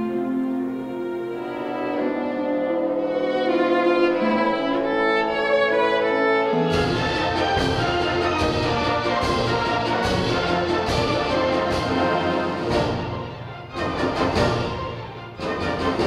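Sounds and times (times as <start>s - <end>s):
orchestra playing classical music: 0.0s - 16.0s.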